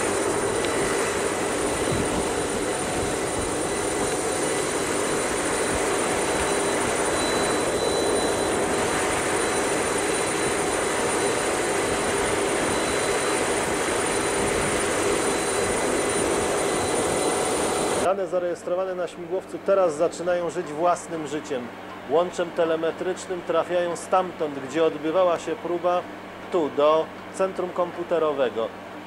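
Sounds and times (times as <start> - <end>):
helicopter engines and rotor roaring: 0.0 - 29.0
high turbine whine: 0.0 - 29.0.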